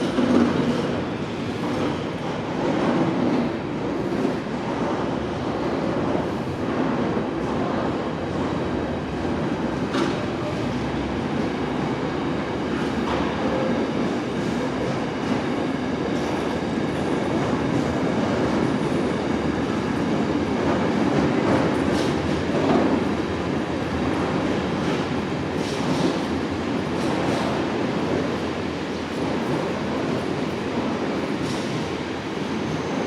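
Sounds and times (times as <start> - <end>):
freight train wagons clickety-clack: 0.0 - 33.0.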